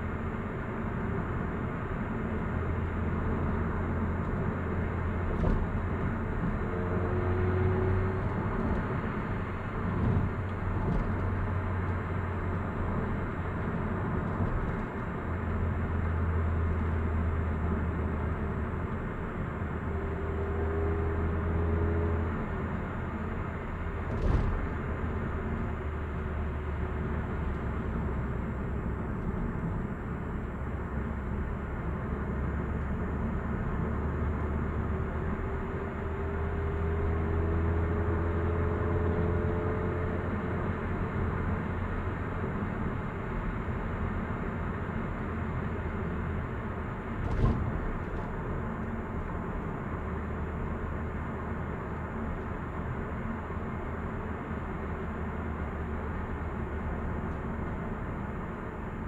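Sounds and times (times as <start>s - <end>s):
road rumble inside car: 0.0s - 59.0s.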